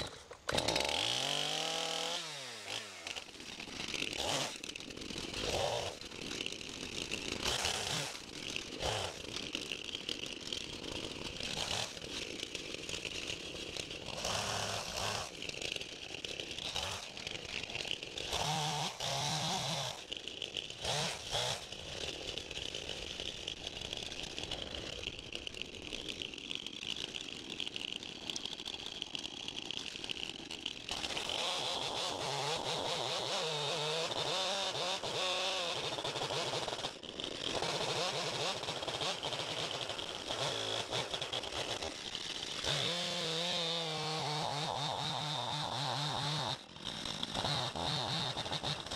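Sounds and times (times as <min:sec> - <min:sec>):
chainsaw cutting log: 0:00.0 - 0:48.9
chainsaw idling: 0:00.0 - 0:48.9.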